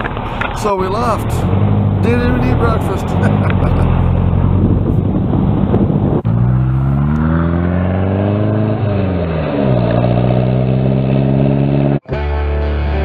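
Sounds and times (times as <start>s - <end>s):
car engine revving: 0.0s - 12.1s.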